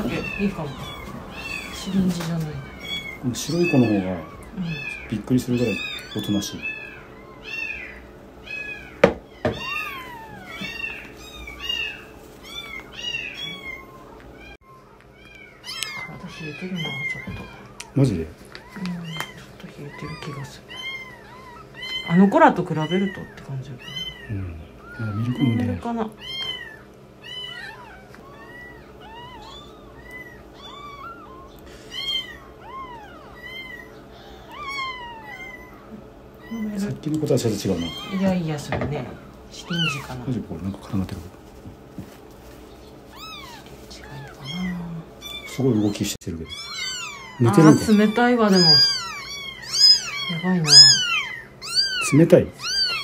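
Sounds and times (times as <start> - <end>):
kittens mewing: 0.0 - 53.0.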